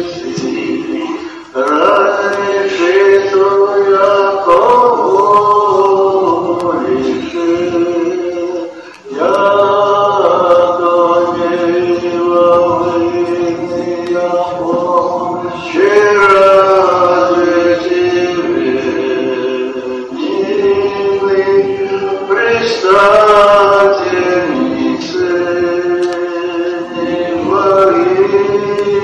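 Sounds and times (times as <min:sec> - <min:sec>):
man singing a church chant: 0:00.0 - 0:29.0.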